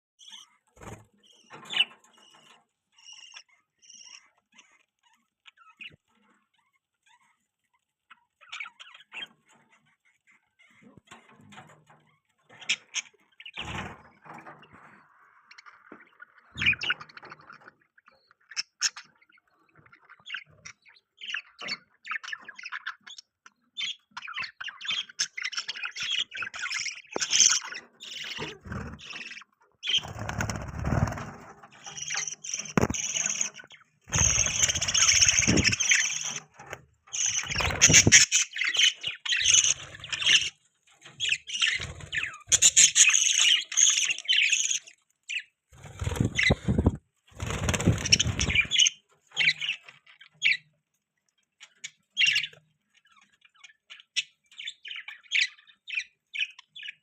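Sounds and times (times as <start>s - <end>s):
budgies chirping: 0.2s - 57.0s.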